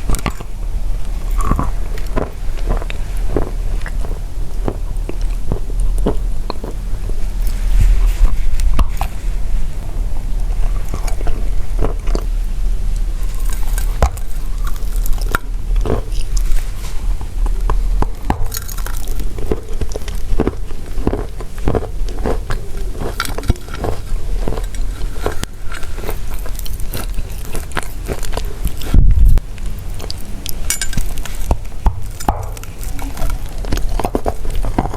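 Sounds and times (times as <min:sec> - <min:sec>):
chalk crunching while chewed: 0:00.0 - 0:09.2, 0:10.4 - 0:34.9
steady low hum: 0:00.0 - 0:34.9.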